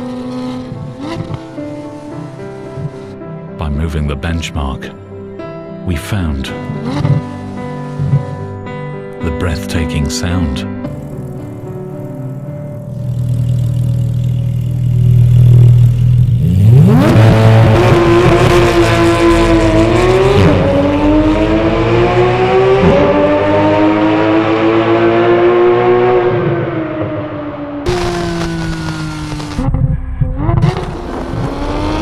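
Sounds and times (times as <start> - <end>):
sports car engine revving: 0.0 - 3.2, 6.5 - 8.5, 10.8 - 32.0.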